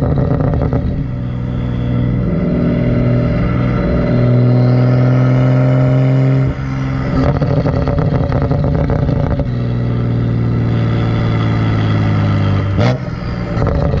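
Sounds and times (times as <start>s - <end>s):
loud car exhaust note: 0.0s - 14.0s.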